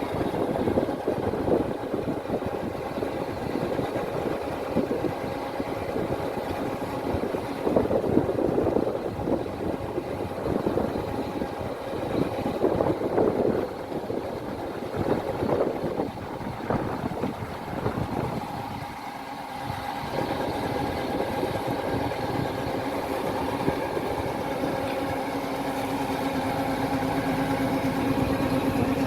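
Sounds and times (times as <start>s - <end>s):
combine harvester engine and machinery: 0.0s - 29.0s.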